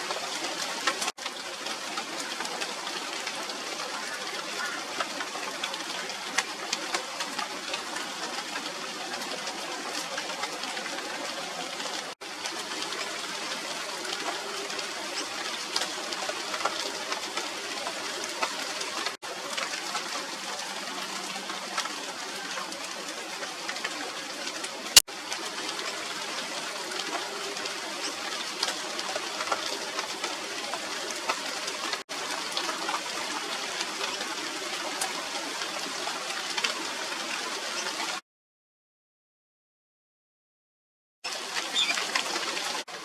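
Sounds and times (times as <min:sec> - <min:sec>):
rain on leaves: 0:00.0 - 0:38.2, 0:41.2 - 0:43.0.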